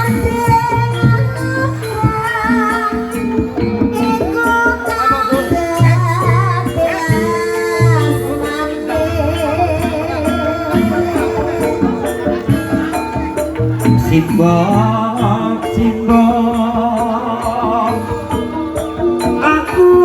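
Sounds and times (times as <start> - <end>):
hand drum: 0.0 - 20.0
person singing with vibrato: 0.0 - 20.0.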